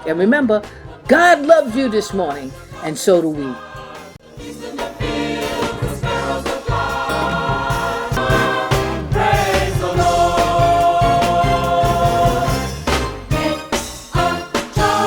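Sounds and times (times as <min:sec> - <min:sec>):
gospel choir singing over a beat: 0:00.0 - 0:15.0.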